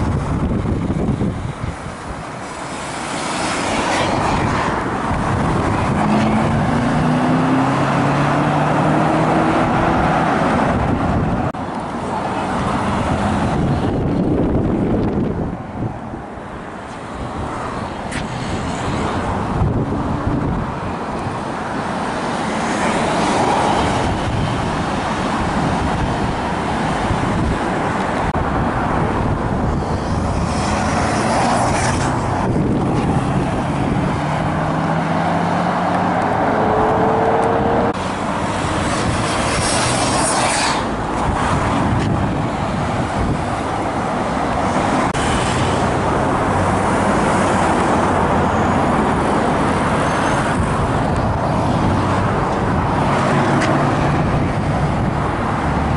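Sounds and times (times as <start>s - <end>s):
cars driving past: 0.0s - 55.9s.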